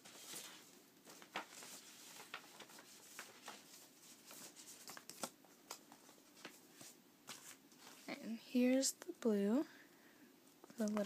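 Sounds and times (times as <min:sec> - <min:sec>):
record sleeves rustling and tapping: 0:00.0 - 0:08.8, 0:10.5 - 0:11.0.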